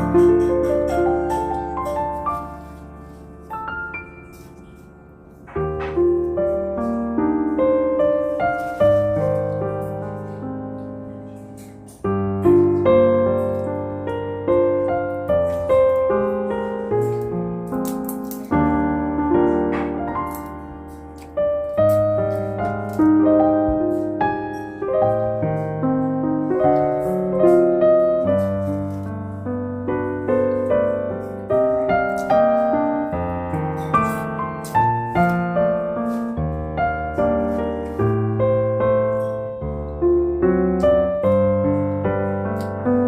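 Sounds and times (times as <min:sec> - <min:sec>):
slow piano music: 0:00.0 - 0:43.0.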